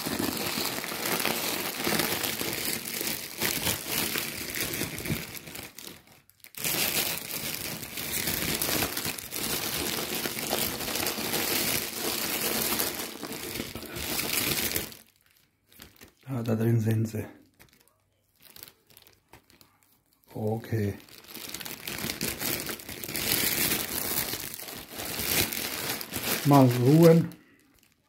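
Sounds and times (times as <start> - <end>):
foil wrap crinkling: 0.0 - 16.8, 17.4 - 28.0.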